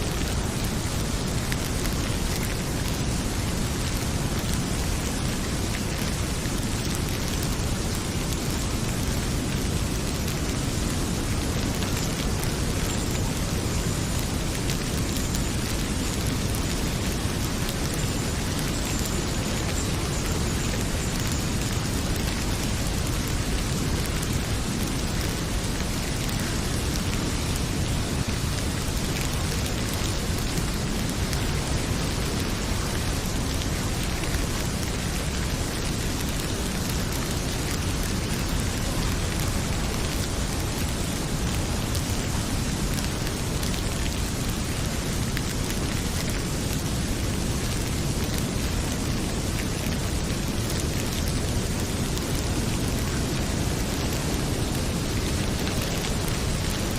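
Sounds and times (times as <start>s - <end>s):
heavy rain pouring: 0.0s - 56.9s
wood fire crackling: 0.0s - 56.9s.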